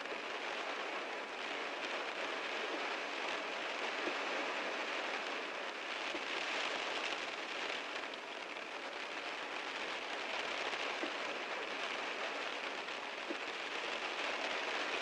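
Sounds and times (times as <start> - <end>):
heavy rain drumming on a car: 0.0 - 15.0.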